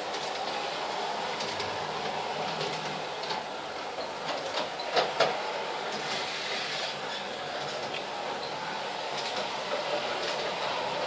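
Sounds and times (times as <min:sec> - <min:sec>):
model train whirring: 0:00.0 - 0:11.0.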